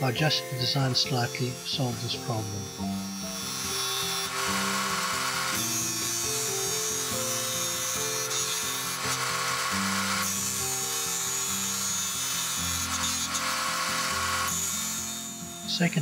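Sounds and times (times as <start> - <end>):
background music: 0.0 - 16.0
wood lathe cutting hiss: 0.0 - 16.0.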